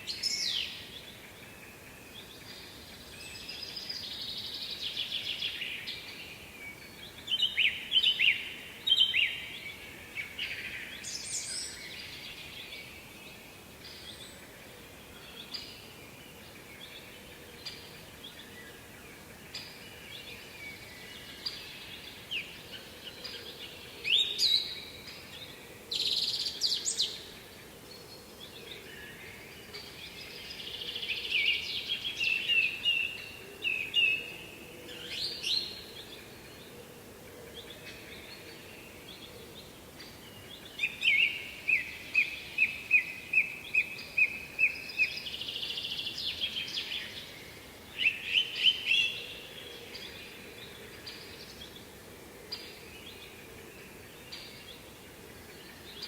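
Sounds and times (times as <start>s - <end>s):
faint background hiss: 0.0s - 56.0s.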